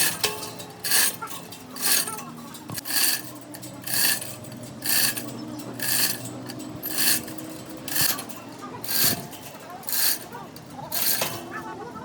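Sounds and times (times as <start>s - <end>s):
rasping strokes on metal: 0.0s - 12.0s
steady low hum: 0.0s - 12.0s.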